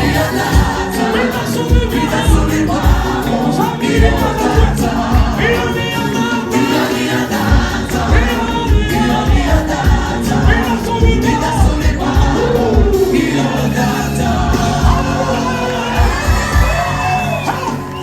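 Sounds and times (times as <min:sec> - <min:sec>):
backing band: 0:00.0 - 0:18.0
gospel choir singing: 0:00.0 - 0:18.0
steady drum beat: 0:00.0 - 0:18.0.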